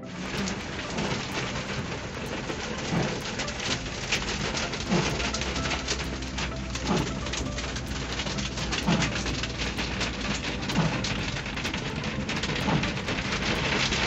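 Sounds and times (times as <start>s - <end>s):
heavy rain on car roof: 0.0s - 14.0s
windscreen wiper sweep: 0.0s - 14.0s.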